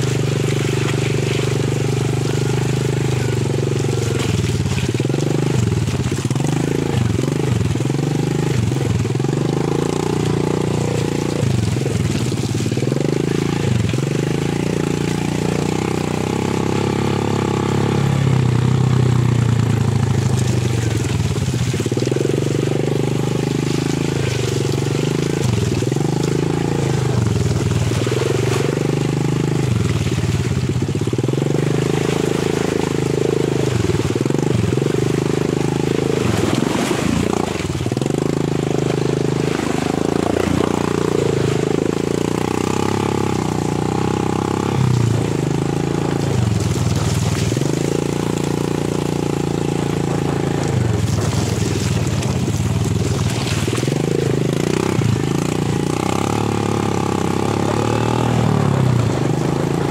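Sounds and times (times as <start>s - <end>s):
small motorcycle engine revving: 0.0s - 59.9s.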